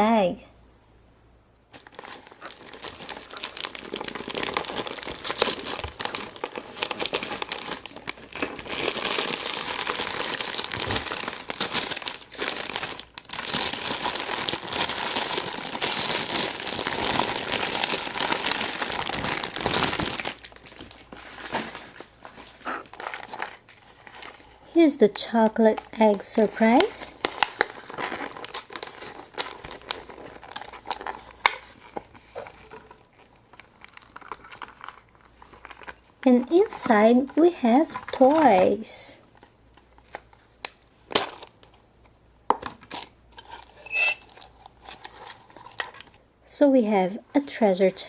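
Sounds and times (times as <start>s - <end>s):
wrapper crinkling and tearing: 1.7s - 41.8s, 42.6s - 46.2s.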